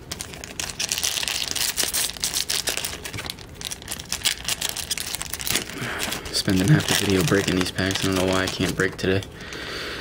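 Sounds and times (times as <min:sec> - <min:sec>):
wrapper tearing and crinkling: 0:00.0 - 0:09.2.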